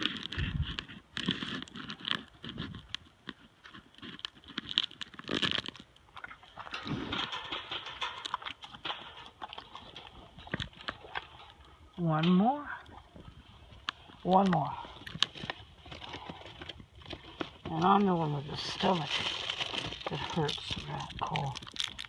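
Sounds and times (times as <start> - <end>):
horse crunching hard candies: 0.0 - 22.0.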